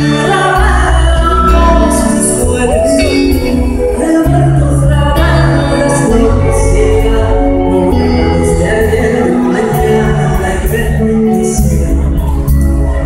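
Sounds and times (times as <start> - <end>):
heavy bass line: 0.0 - 13.0
lead singer singing: 0.0 - 13.0
live pop band music: 0.0 - 13.0.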